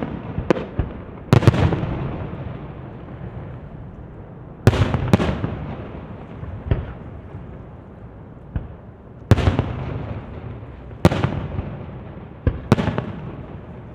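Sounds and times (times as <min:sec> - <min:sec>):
fireworks bursting with bangs: 0:00.0 - 0:13.9
fireworks rumble: 0:00.0 - 0:13.9.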